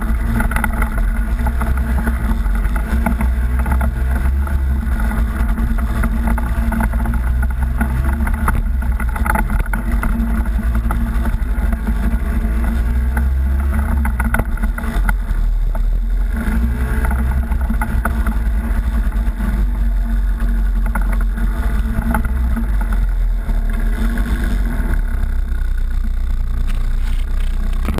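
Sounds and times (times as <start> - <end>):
off-road vehicle engine running: 0.0 - 27.9.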